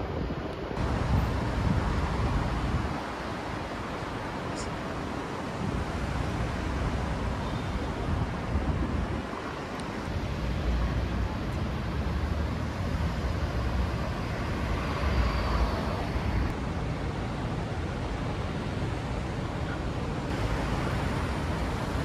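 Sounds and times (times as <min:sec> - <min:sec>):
street traffic: 0:00.0 - 0:22.0
wind rumbling on microphone: 0:00.0 - 0:22.0.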